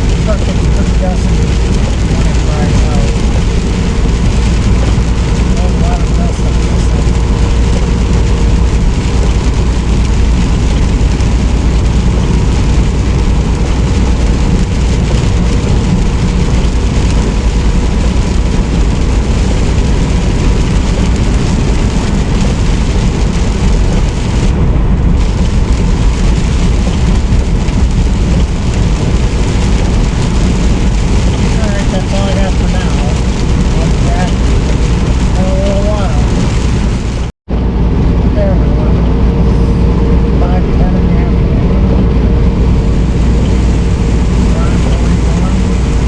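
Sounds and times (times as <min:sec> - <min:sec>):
diesel engine drone: 0:00.0 - 0:46.0
road and tyre noise: 0:00.0 - 0:46.0.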